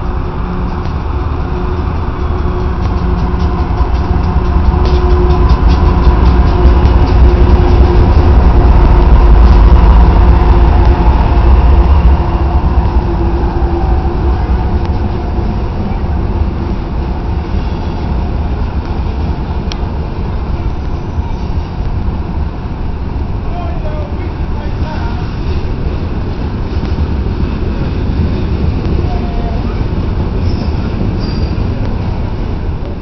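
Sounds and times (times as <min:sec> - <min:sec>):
diesel locomotive engine drone: 0:00.0 - 0:33.0
freight cars rolling on rails: 0:00.0 - 0:33.0.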